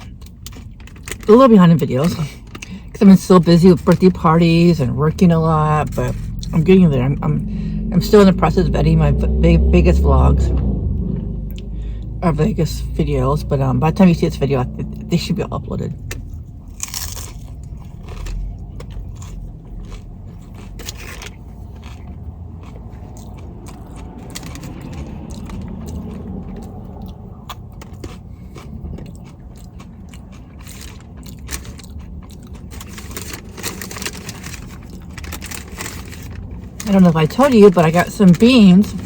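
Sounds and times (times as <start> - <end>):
crunchy taco chewing: 0.0 - 39.0
steady low hum: 0.0 - 39.0.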